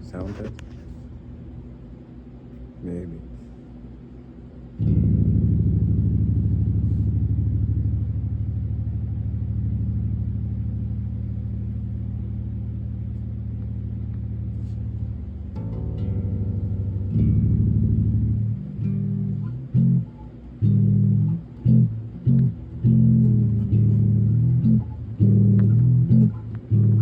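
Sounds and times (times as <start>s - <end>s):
deep wobbling note through speaker: 4.8s - 27.0s.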